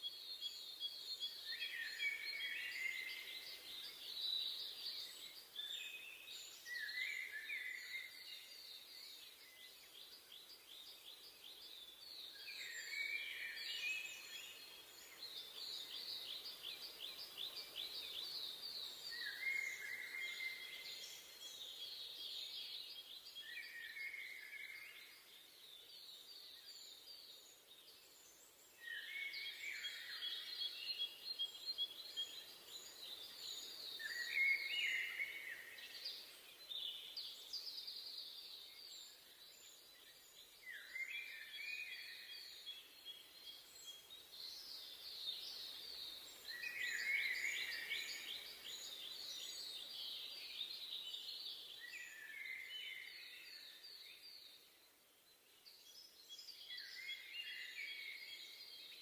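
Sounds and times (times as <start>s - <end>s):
faint steady hiss: 0.0s - 59.0s
songbirds singing: 0.0s - 59.0s.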